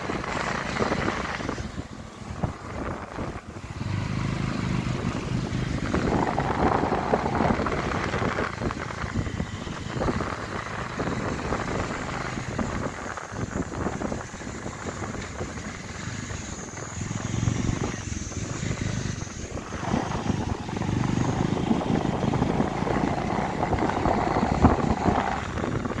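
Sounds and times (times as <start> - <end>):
motorcycle engine running: 0.0 - 26.0
wind on microphone: 0.0 - 26.0.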